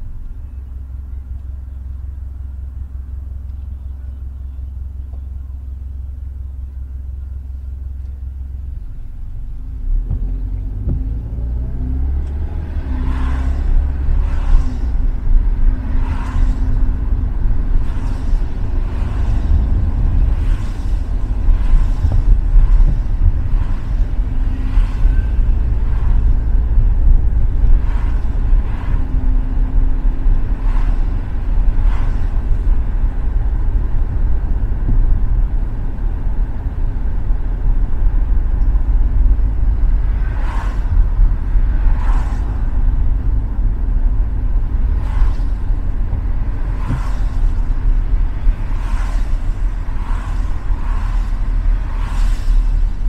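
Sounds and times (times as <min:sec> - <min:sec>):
car engine rumble: 0:00.0 - 0:53.0
tyres swishing on wet road: 0:09.9 - 0:53.0.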